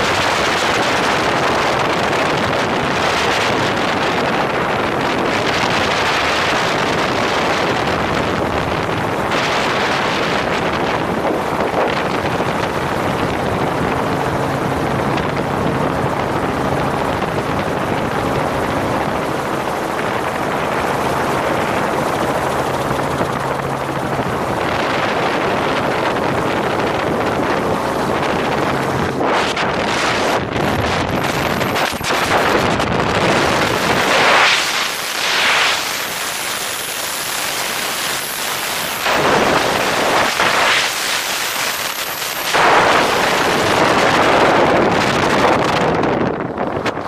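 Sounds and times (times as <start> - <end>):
helicopter engine and rotor drone: 0.0 - 47.0
wind rushing over microphone: 0.0 - 47.0.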